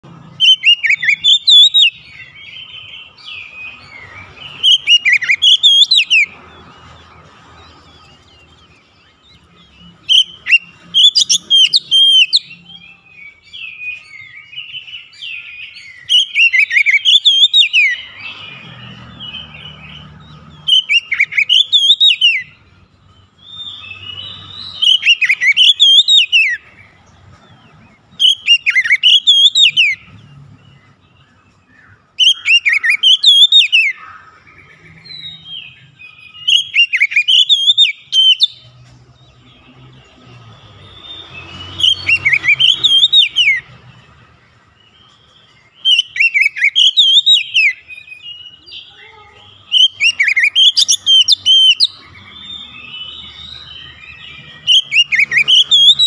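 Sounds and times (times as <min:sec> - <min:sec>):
soft bird twittering: 0:00.0 - 0:56.0
bird singing whistled phrases: 0:00.3 - 0:06.4, 0:08.0 - 0:22.6, 0:23.4 - 0:26.7, 0:28.2 - 0:30.1, 0:31.8 - 0:38.6, 0:40.7 - 0:43.7, 0:45.8 - 0:56.0.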